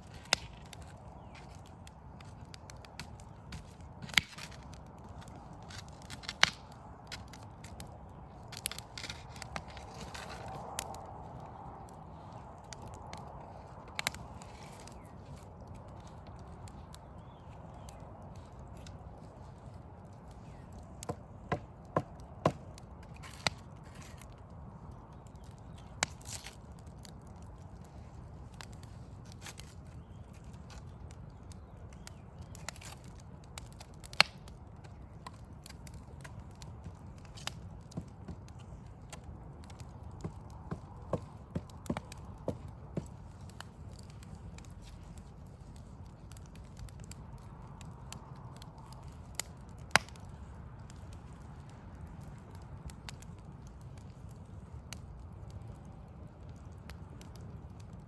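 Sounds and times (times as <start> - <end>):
sharp pops from fire: 0.0 - 58.0
wood fire crackling: 0.0 - 58.0.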